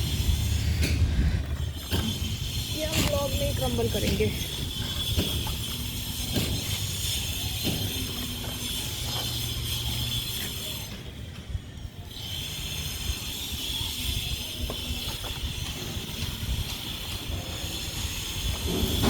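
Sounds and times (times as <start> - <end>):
wind buffeting microphone: 0.0 - 7.9, 11.2 - 19.0.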